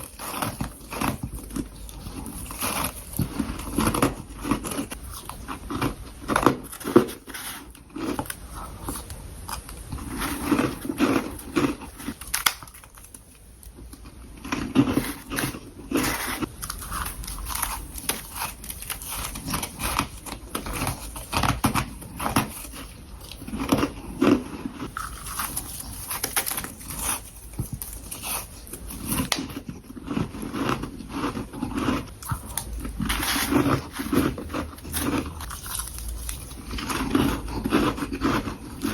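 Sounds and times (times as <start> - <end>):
crunching and chewing frost: 0.0 - 38.9.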